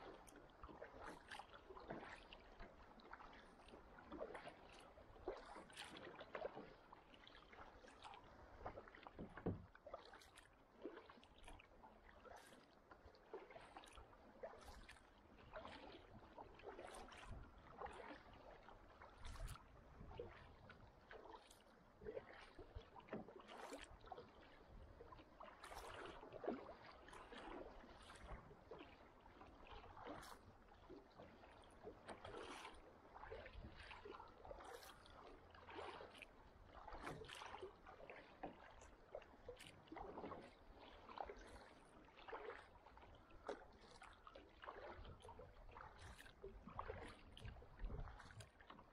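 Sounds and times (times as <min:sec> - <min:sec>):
paddle splashes and drips: 0:00.0 - 0:48.9
water lapping: 0:00.0 - 0:48.9.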